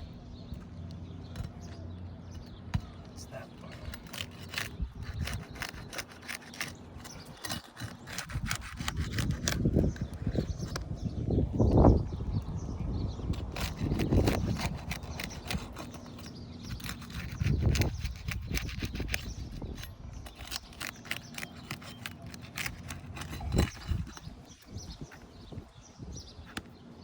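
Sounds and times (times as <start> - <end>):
scraping and clicking on shingles: 0.0 - 12.6, 13.2 - 27.0.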